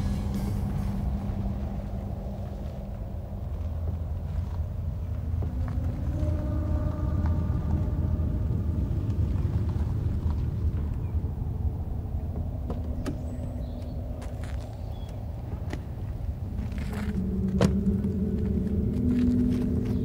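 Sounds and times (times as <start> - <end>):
car engine rumbling: 0.0 - 20.0
low steady drone: 0.0 - 20.0.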